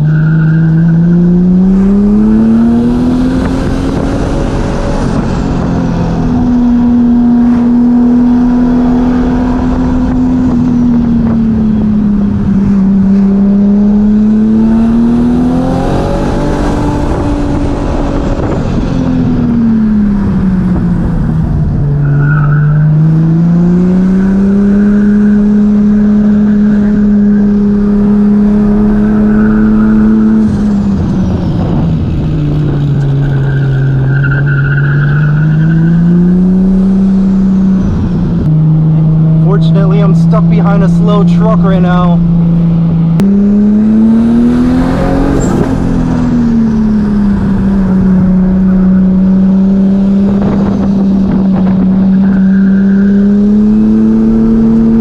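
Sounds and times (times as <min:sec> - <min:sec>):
turbocharged car engine revving: 0:00.0 - 0:55.0.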